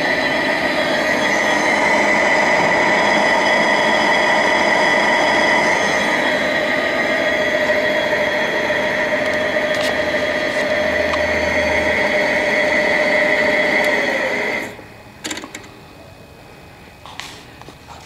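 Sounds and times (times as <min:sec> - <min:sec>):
mill head whining: 0:00.0 - 0:16.3.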